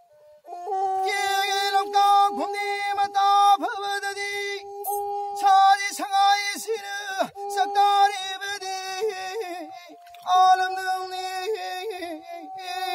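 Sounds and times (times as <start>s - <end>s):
man singing: 0.4s - 12.9s.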